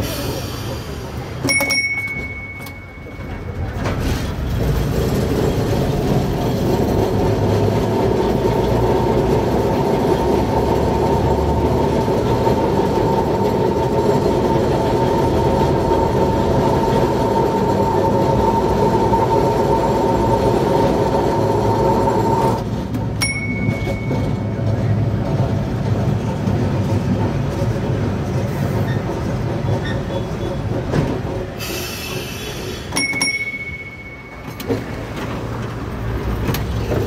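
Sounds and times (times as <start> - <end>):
tram wheels rumbling on rails: 0.0 - 37.0.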